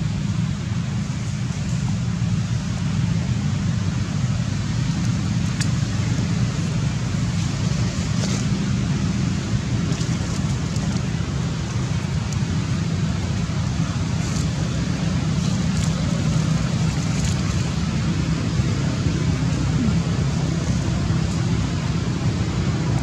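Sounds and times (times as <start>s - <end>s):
steady low rumble with hiss: 0.0s - 23.0s.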